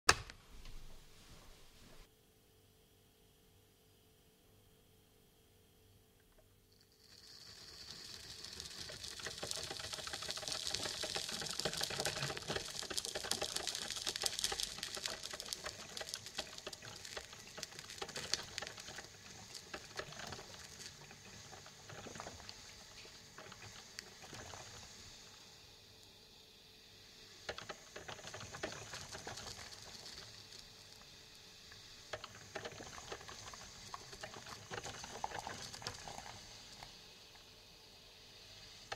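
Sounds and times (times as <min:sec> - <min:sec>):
coffee maker hissing and sputtering: 0:06.5 - 0:38.9.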